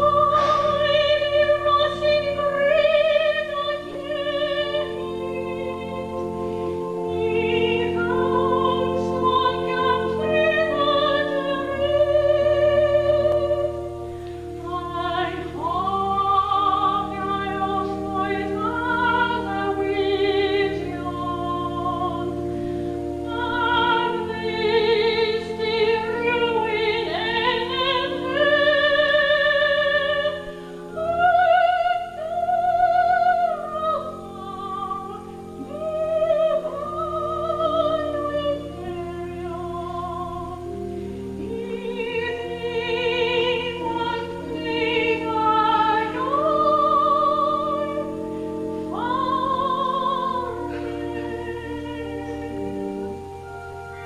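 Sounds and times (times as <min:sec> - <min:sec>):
held accompaniment chords: 0:00.0 - 0:54.0
woman singing operatic song: 0:00.0 - 0:54.0.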